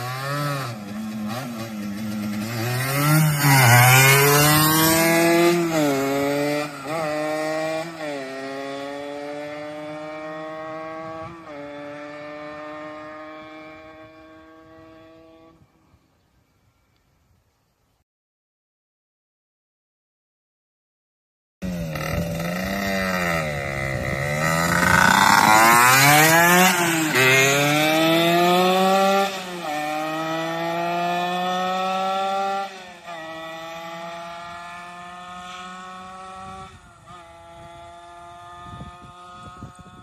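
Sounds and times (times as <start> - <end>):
two-stroke motorcycle accelerating: 0.0 - 15.7, 21.6 - 40.0.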